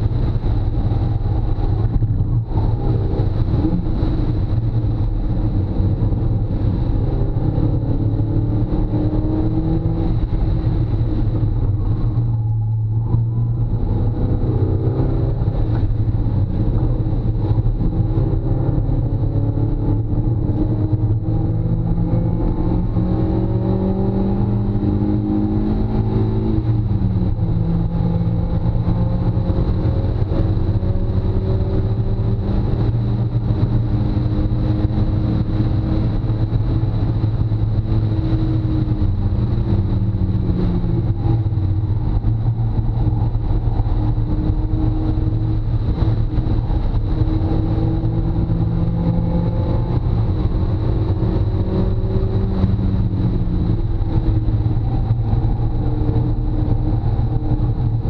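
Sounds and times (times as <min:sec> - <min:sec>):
car engine drone: 0:00.0 - 0:58.0
road and wind noise: 0:00.0 - 0:58.0.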